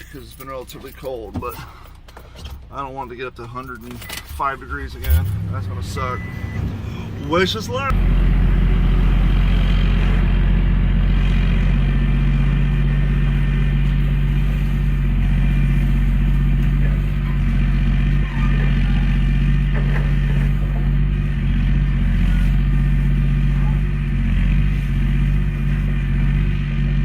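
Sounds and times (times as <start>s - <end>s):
engine low drone: 0.0s - 27.0s.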